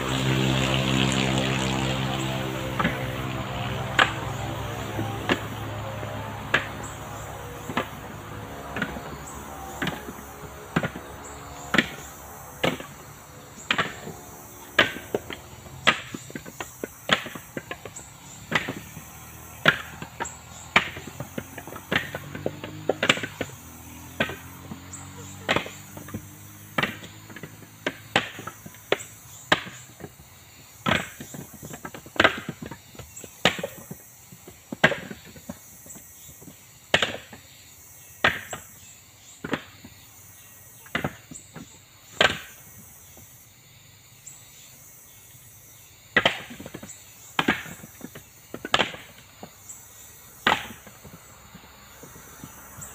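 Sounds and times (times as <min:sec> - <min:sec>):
chopping strikes on coconut husk: 0:02.2 - 0:37.5, 0:38.2 - 0:40.0, 0:40.7 - 0:42.8, 0:46.1 - 0:49.6, 0:50.4 - 0:51.3.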